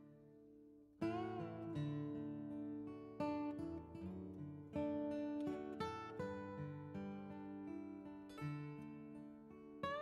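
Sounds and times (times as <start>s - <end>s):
guitar chords: 1.0s - 10.0s.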